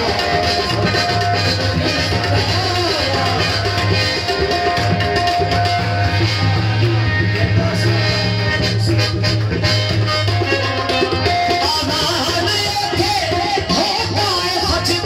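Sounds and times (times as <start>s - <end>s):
drums: 0.0s - 15.0s
harmonium: 0.0s - 15.0s.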